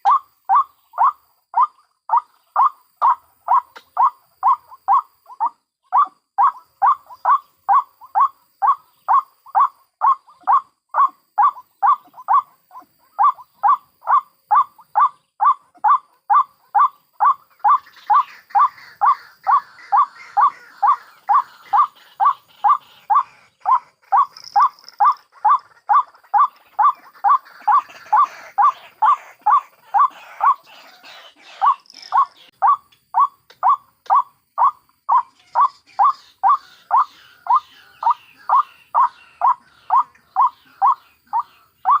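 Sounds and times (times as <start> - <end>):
higher chattering bird calls: 0.0 - 42.0.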